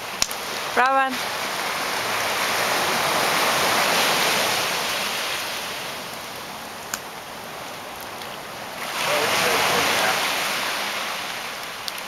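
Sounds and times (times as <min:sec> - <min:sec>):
ocean wave washing in: 0:00.0 - 0:11.8.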